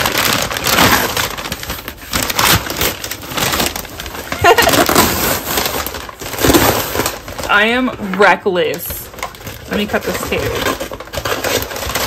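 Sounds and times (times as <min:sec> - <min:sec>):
paper and plastic wrap tearing: 0:00.0 - 0:12.0.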